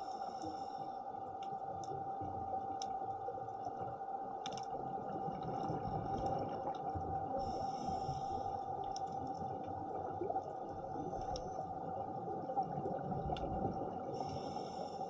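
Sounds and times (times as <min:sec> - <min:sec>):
underwater clicks and crackles: 0:00.0 - 0:15.0
underwater hum: 0:00.0 - 0:15.0.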